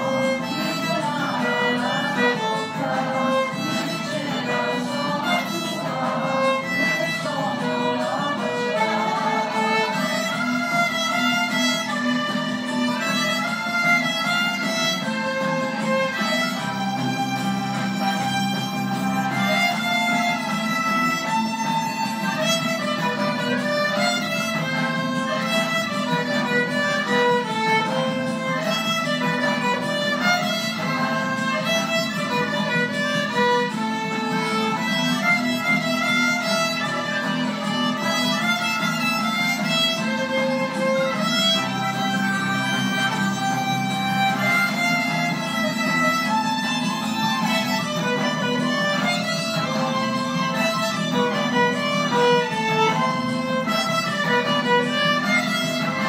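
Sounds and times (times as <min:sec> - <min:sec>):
bowed violin melody: 0:00.0 - 0:56.0.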